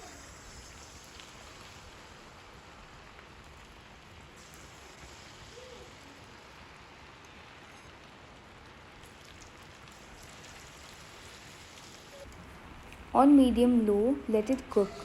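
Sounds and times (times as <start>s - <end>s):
batter sizzling in hot oil: 0.0s - 12.3s.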